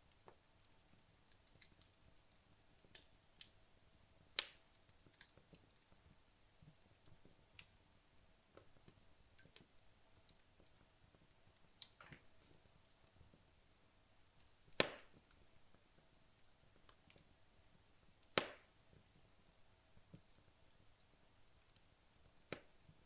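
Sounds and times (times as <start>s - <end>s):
fireplace logs crackling and popping: 0.0s - 23.0s.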